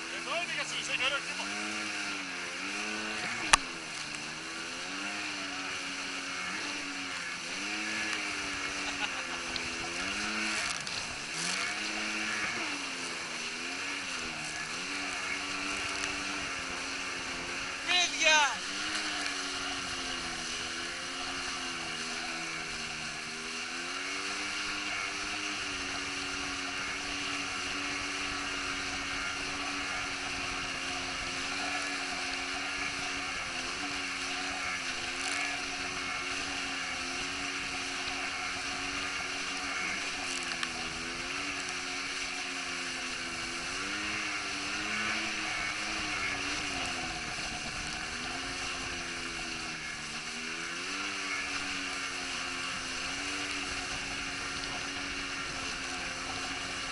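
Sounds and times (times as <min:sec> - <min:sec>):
jet ski engine: 0:00.0 - 0:56.9
wind: 0:00.0 - 0:56.9.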